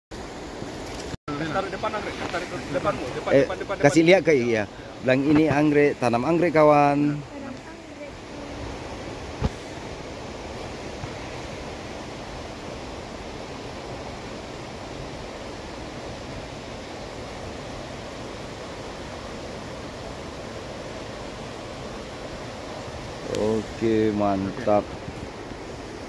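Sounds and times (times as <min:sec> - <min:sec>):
waterfall rushing: 0:01.3 - 0:26.0.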